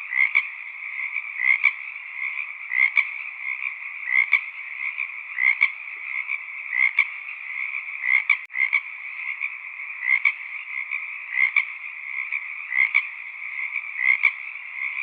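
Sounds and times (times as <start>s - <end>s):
frog chorus: 0.0s - 15.0s
louder frog call: 0.0s - 15.0s.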